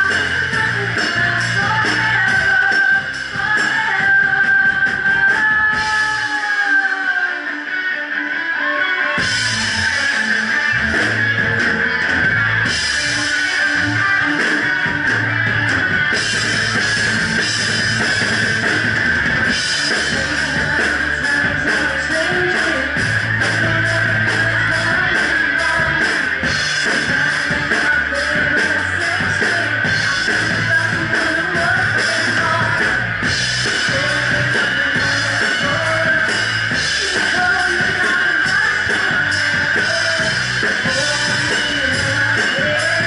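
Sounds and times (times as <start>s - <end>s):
woman singing: 0.0s - 7.7s, 13.0s - 17.5s, 19.7s - 43.0s
bass guitar: 0.0s - 43.0s
distorted electric guitar: 0.0s - 43.0s
rock drum kit: 0.0s - 43.0s.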